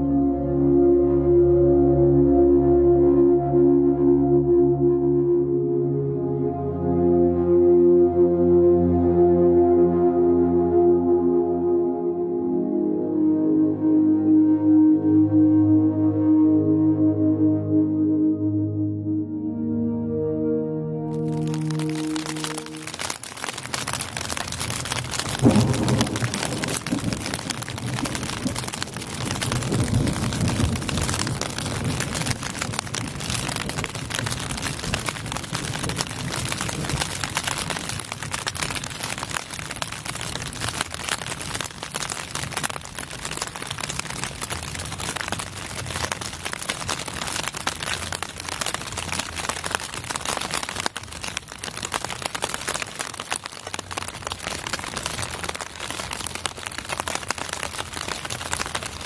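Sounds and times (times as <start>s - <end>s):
steady rain: 0.0s - 16.2s, 21.1s - 59.0s.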